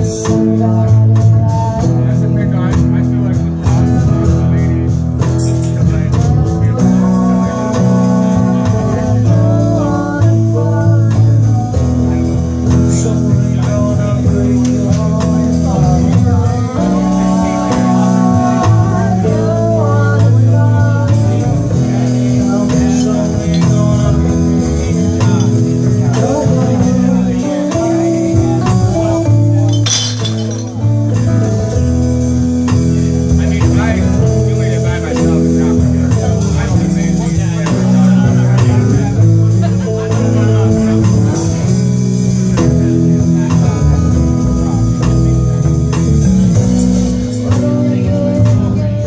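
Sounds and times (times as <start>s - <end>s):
drum kit: 0.0s - 49.0s
electric guitars: 0.0s - 49.0s
low bass line: 0.0s - 49.0s.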